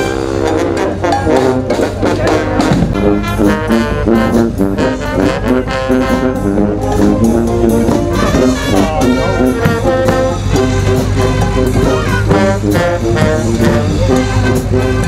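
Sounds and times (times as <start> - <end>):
brass band playing jazz: 0.0 - 15.0.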